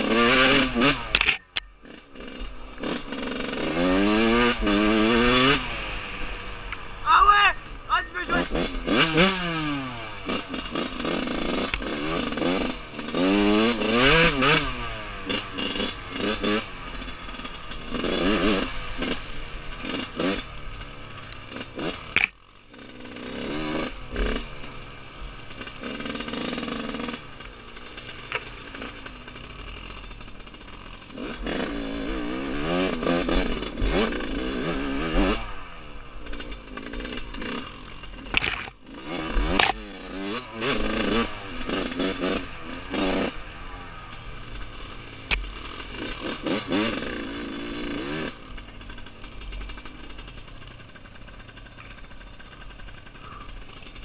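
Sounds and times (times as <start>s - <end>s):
two-stroke dirt bike engine revving: 0.0s - 54.0s.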